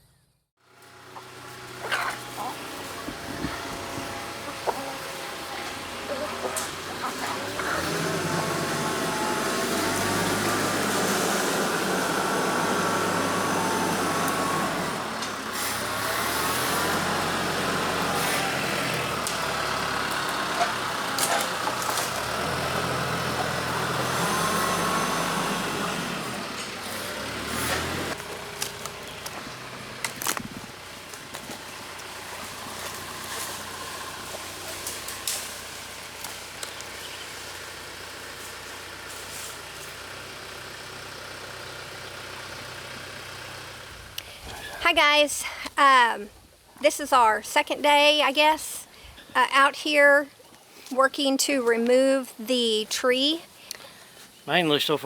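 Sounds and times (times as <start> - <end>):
tractor diesel engine running: 0.6 - 50.4.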